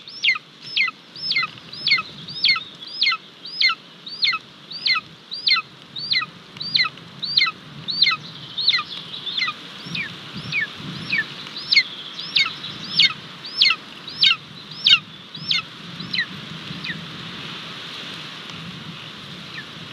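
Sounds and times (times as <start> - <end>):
eagle piercing calls: 0.0 - 17.0.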